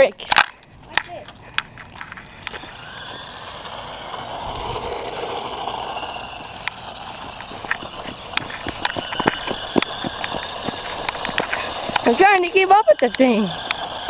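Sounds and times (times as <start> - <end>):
tyres rolling on concrete: 1.0 - 14.0
toy truck electric motor whining: 2.0 - 14.0.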